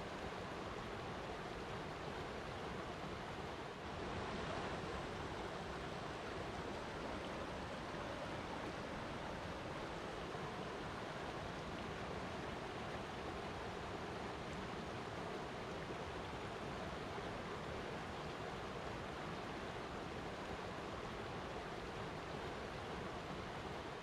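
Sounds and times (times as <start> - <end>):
water flowing: 0.0 - 24.0.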